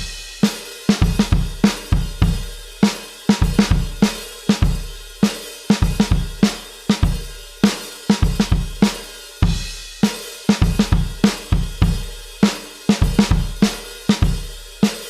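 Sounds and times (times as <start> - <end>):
rock drum kit groove: 0.0 - 15.0.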